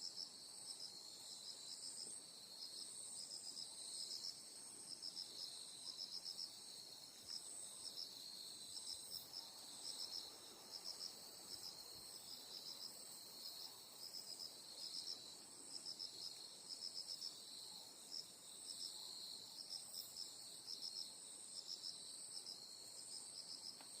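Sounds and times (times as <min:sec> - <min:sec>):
night insects chirping: 0:00.0 - 0:24.0.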